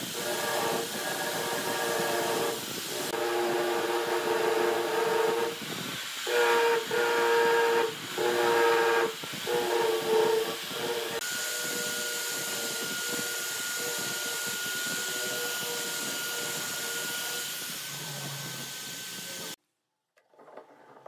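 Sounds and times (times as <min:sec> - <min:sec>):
angle grinder sanding wood: 0:00.0 - 0:19.6.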